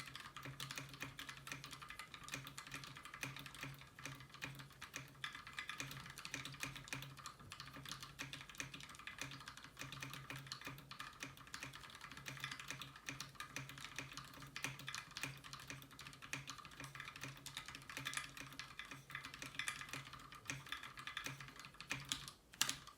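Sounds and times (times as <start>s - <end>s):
fast typing on mechanical keyboard: 0.0s - 22.9s.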